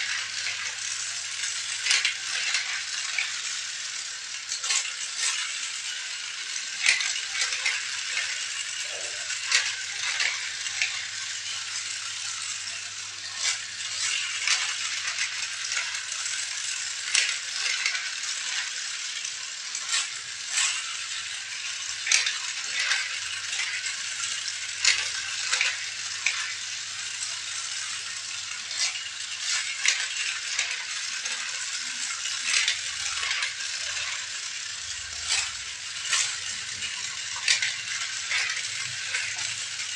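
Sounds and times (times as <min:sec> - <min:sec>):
toy parts rattling and clicking: 0:00.0 - 0:39.9.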